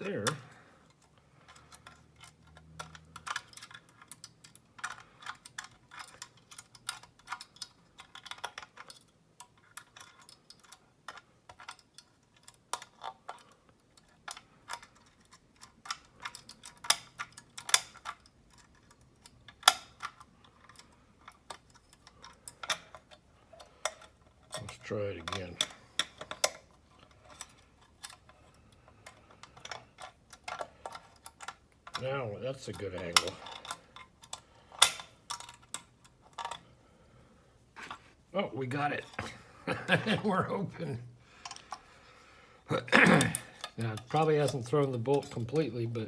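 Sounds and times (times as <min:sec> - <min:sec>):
lock pick clicking and scraping: 0:00.0 - 0:38.1, 0:41.4 - 0:42.2, 0:43.2 - 0:45.7.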